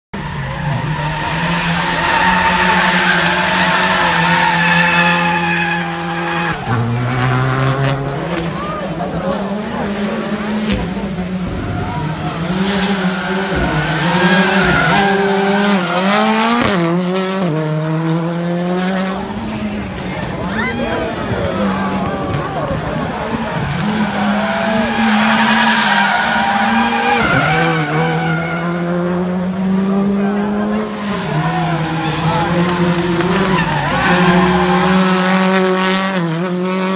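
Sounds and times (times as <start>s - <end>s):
rally car engine at high revs: 0.2s - 20.5s, 21.1s - 36.9s.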